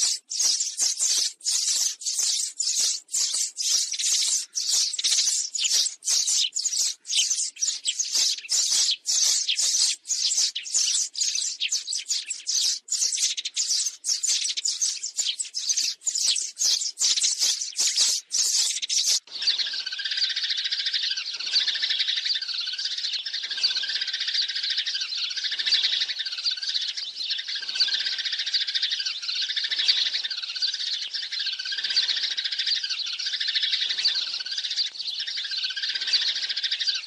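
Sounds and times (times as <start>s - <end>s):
sparrows chirping: 0.0s - 37.0s.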